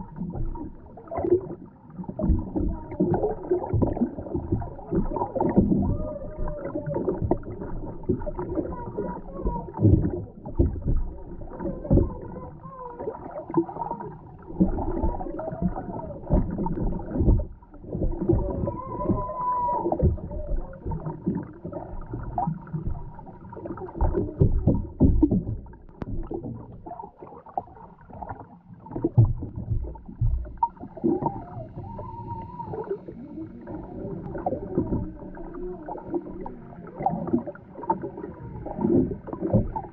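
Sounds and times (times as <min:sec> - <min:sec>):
muffled underwater thumps and gurgles: 0:00.0 - 0:39.9.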